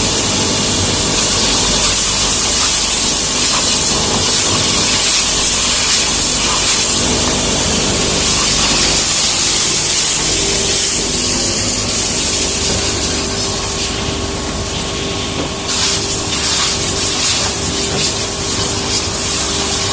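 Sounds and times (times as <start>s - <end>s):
grinder grinding hiss: 0.0s - 19.9s.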